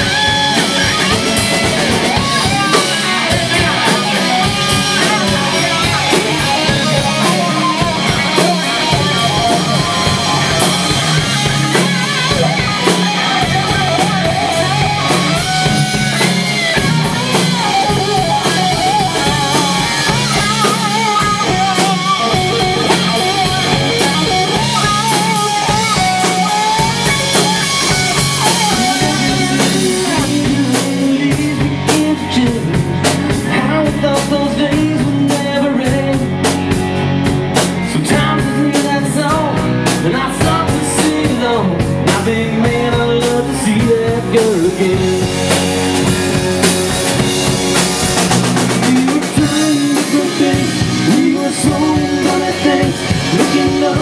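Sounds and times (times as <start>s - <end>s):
man singing: 0.0s - 16.4s, 17.0s - 36.8s, 37.8s - 45.9s, 48.6s - 54.0s
bass guitar: 0.0s - 54.0s
drum kit beat: 0.0s - 54.0s
electric guitar: 0.0s - 54.0s.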